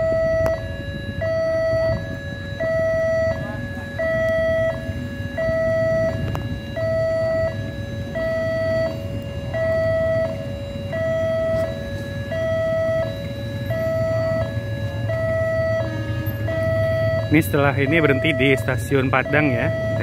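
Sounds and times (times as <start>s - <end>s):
two-tone level crossing alarm: 0.0s - 20.0s.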